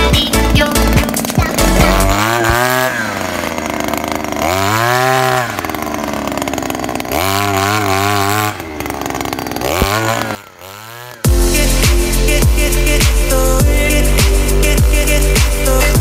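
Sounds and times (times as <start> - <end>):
two-stroke earth auger engine revving: 0.0 - 16.0.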